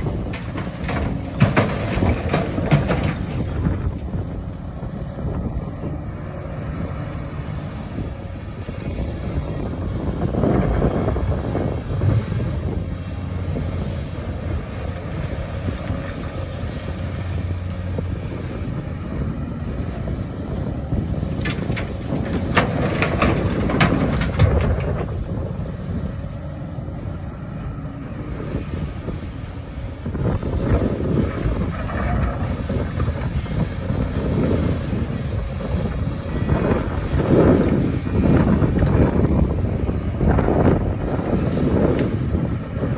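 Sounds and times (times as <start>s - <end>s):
excavator diesel engine hum: 0.0s - 42.9s
wind buffeting microphone: 0.0s - 42.9s.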